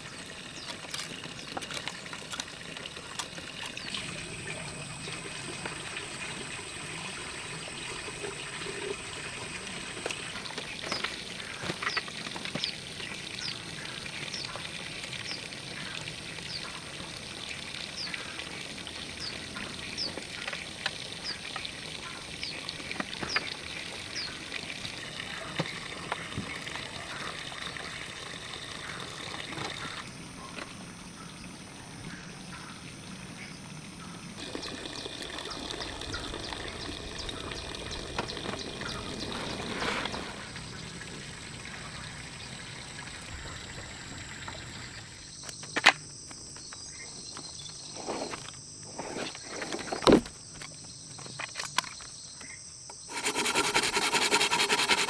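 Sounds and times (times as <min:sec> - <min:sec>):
water trickling: 0:00.0 - 0:45.5, 0:53.0 - 0:55.0.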